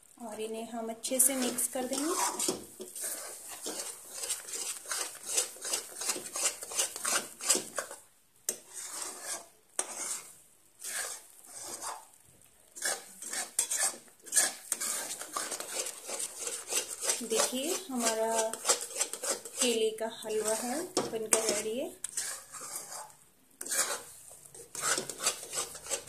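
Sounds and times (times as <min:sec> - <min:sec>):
metal spatula scraping metal pan: 0:01.1 - 0:12.2, 0:12.8 - 0:26.0.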